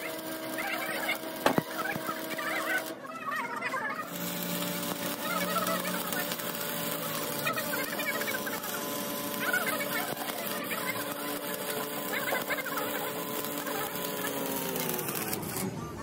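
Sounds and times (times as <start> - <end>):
welding arc crackling and hissing: 0.0 - 3.0, 4.0 - 15.6.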